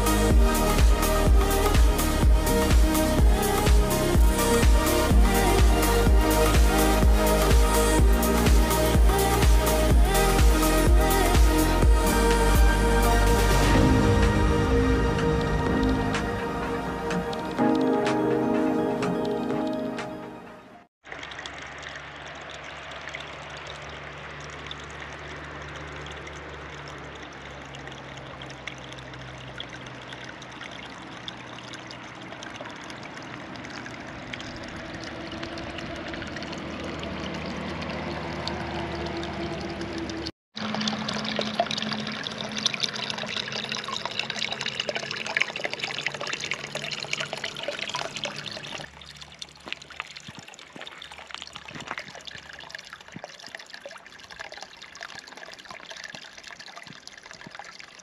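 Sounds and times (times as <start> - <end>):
water trickling and splashing: 0.0 - 20.1, 21.0 - 58.0.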